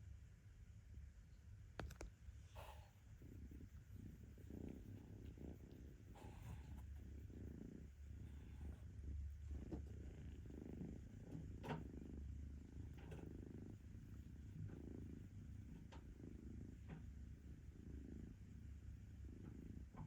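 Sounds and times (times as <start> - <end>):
kitten purring: 1.8 - 20.0.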